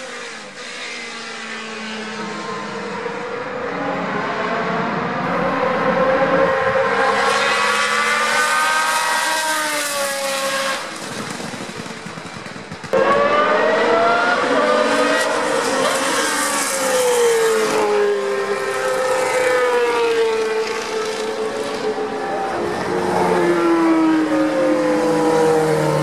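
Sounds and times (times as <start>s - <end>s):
racing car engines at high revs: 0.0s - 11.3s, 12.7s - 26.0s.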